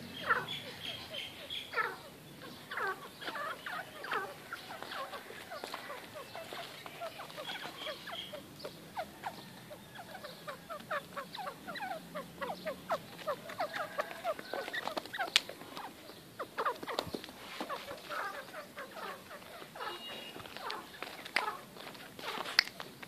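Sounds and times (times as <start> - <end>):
young birds chirping: 0.0 - 23.0.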